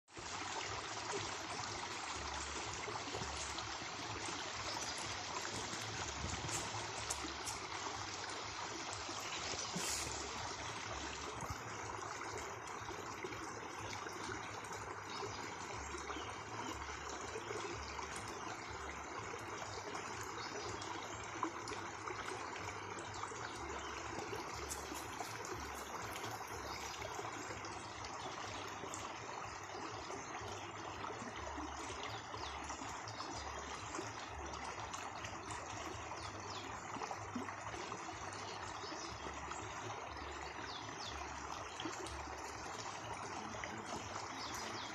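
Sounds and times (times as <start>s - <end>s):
stream water babbling: 0.1s - 44.9s.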